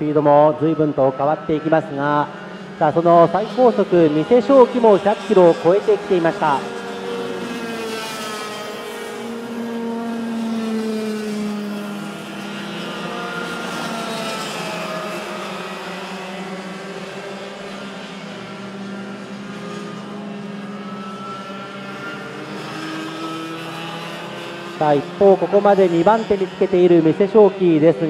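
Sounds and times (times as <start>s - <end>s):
kart engines revving: 0.0s - 28.0s.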